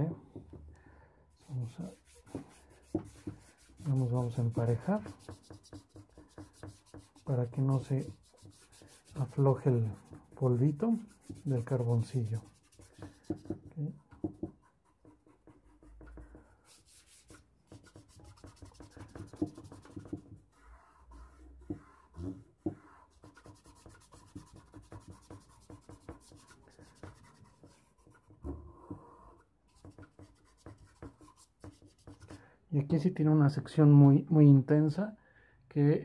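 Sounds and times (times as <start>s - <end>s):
fingers rubbing charcoal on paper: 1.4s - 13.6s, 14.2s - 28.4s, 29.1s - 32.4s.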